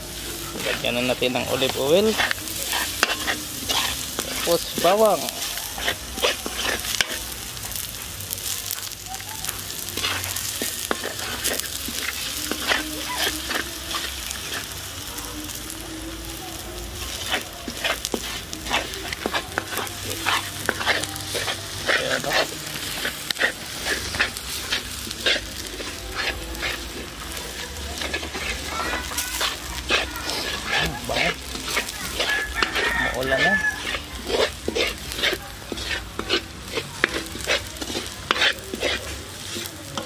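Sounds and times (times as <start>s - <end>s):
utensil scraping a pan: 0.0s - 7.4s, 9.8s - 14.9s, 16.9s - 40.0s
garlic sizzling in oil: 0.0s - 40.0s.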